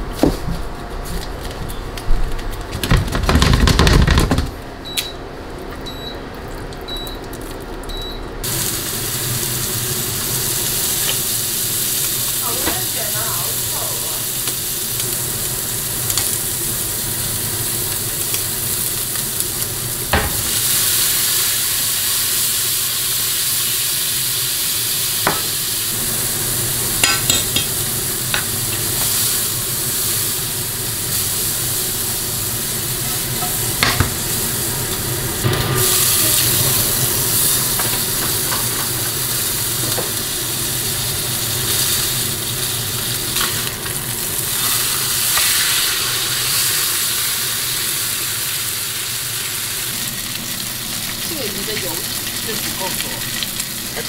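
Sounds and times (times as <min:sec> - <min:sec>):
shrimp sizzling in frying pan: 0:08.4 - 0:54.0.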